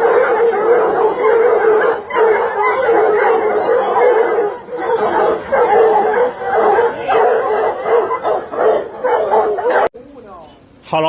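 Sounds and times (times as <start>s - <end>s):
dog barking rapidly: 0.0s - 9.9s.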